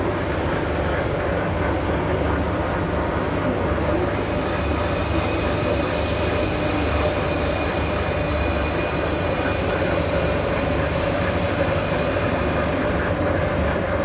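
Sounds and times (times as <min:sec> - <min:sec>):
milling machine hum: 0:00.2 - 0:14.0.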